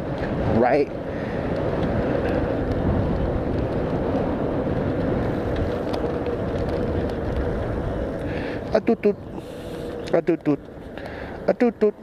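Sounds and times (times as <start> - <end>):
wind and road rush: 0.0 - 12.0.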